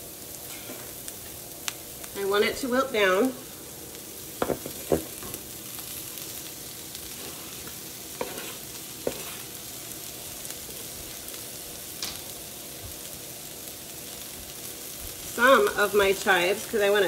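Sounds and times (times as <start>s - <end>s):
onions sizzling in butter: 0.0s - 17.0s.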